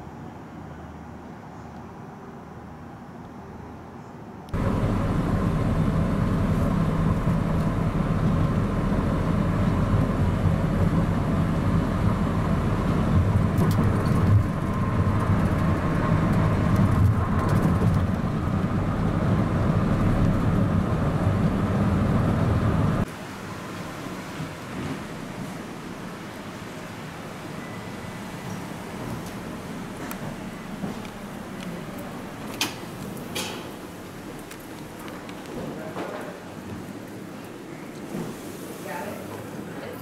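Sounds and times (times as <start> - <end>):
faint outdoor ambience: 0.0 - 40.0
vehicle road noise: 0.0 - 40.0.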